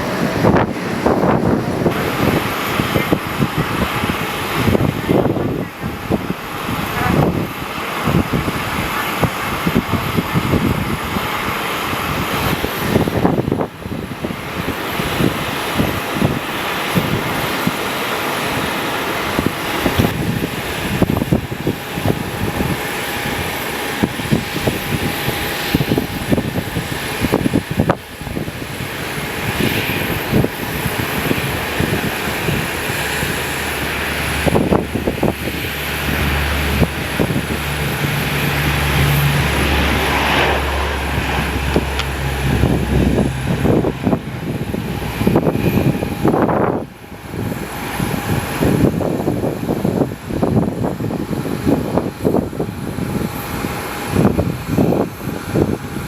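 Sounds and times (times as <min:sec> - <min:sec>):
airplane engines humming: 0:00.0 - 0:56.0
wind buffeting microphone: 0:00.0 - 0:56.0.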